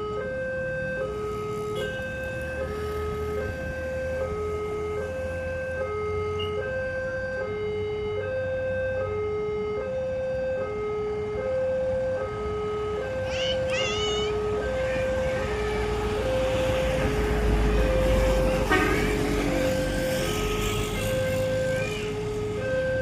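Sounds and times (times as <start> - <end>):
level crossing two-tone alarm: 0.0 - 20.6, 21.2 - 23.0.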